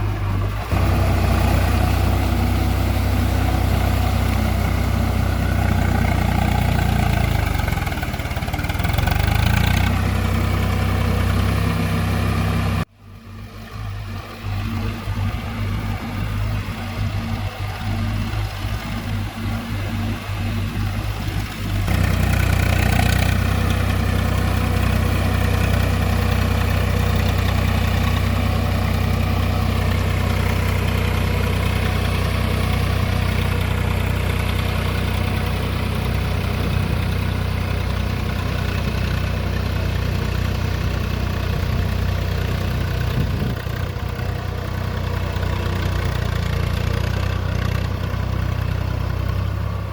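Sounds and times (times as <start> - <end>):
tractor diesel engine droning: 0.0 - 49.9.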